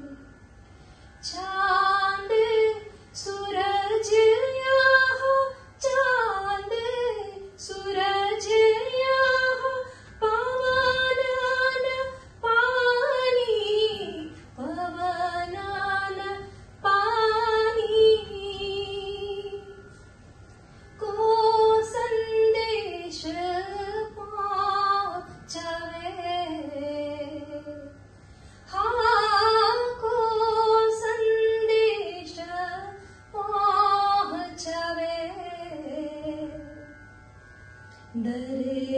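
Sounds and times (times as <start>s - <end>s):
woman singing unaccompanied: 1.2s - 19.9s, 21.0s - 28.0s, 28.7s - 36.9s, 38.1s - 38.9s.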